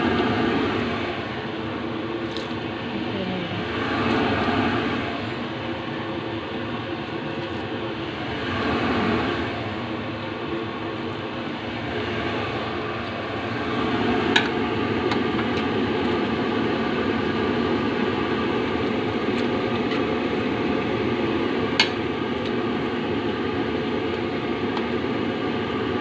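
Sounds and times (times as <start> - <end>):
gas burner rushing: 0.0 - 26.0.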